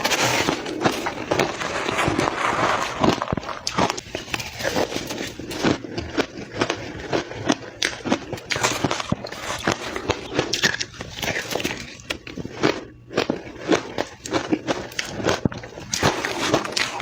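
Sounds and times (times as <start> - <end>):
chewing crushed ice: 0.0 - 17.0.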